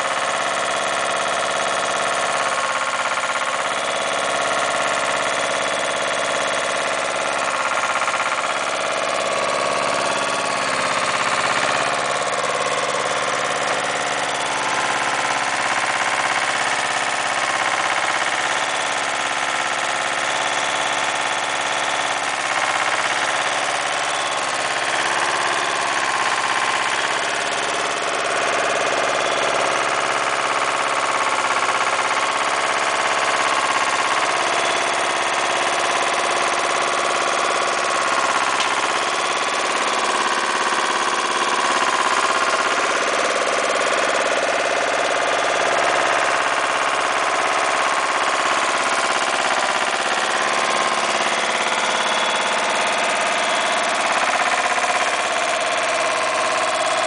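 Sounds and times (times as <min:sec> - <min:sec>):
mini dumper engine running: 0:00.0 - 0:57.0.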